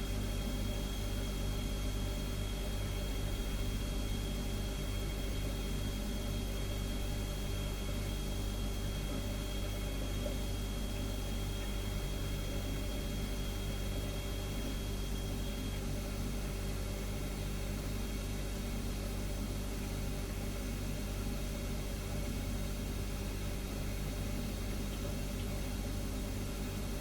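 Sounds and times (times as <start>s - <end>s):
refrigerator humming: 0.0s - 27.0s.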